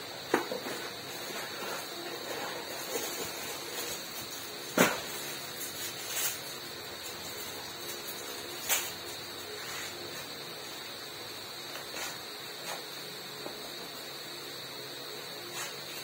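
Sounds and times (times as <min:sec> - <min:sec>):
room hiss: 0:00.0 - 0:16.0.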